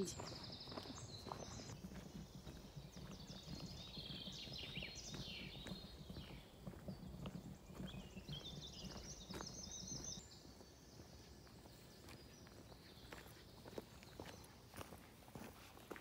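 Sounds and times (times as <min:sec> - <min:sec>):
birds singing: 0:00.0 - 0:15.0
footsteps on forest trail: 0:00.0 - 0:16.0.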